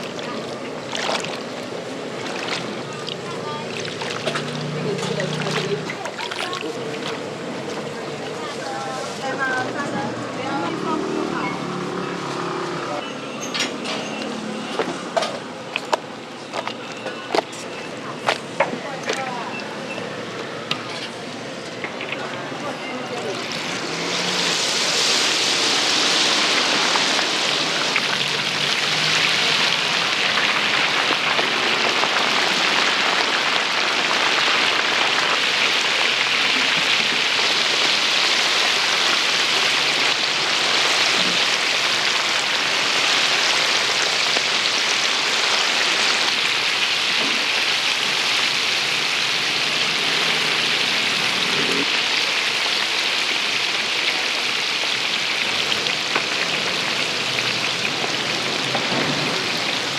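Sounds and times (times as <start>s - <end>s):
food deep-frying sizzle: 0.0s - 9.8s, 14.0s - 59.9s.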